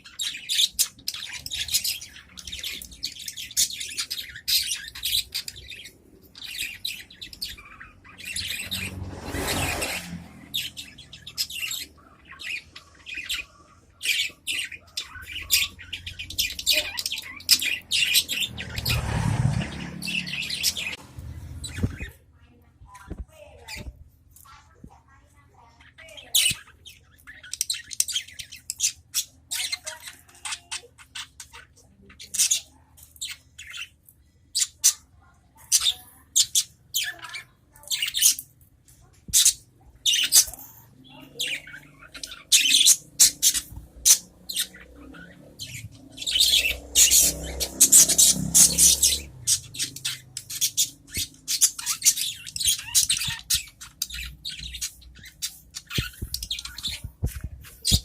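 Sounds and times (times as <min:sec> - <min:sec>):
budgerigars chirping and squawking: 0:00.0 - 0:22.3, 0:23.1 - 0:24.7, 0:25.3 - 0:58.0.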